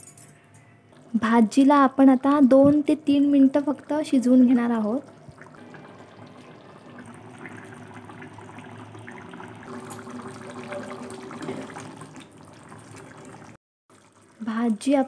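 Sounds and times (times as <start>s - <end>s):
curry bubbling and popping: 0.9s - 15.0s.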